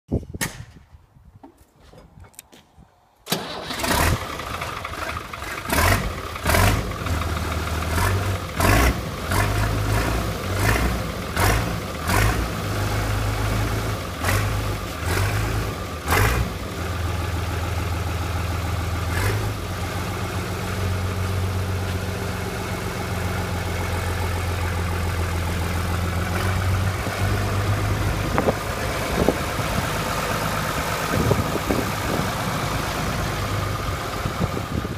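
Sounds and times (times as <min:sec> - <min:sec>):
tractor diesel engine: 0:03.3 - 0:34.9.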